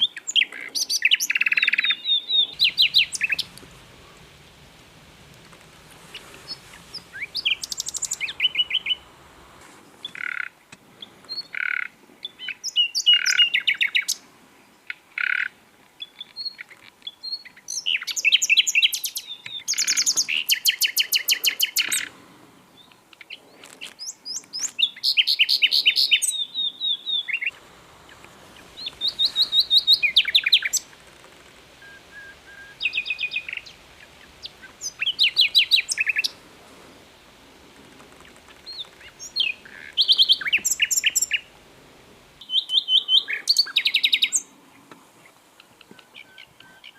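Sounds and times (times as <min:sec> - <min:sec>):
nightingale singing: 0:00.0 - 0:22.1, 0:22.7 - 0:36.4, 0:38.1 - 0:44.5, 0:45.6 - 0:46.9.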